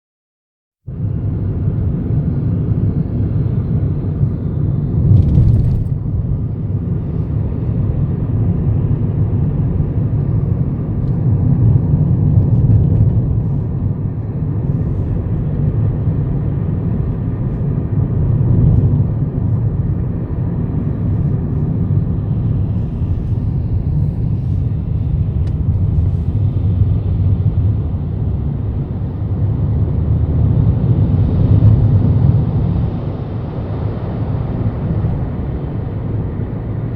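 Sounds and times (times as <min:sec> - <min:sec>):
moving car rumble: 0:00.8 - 0:36.9.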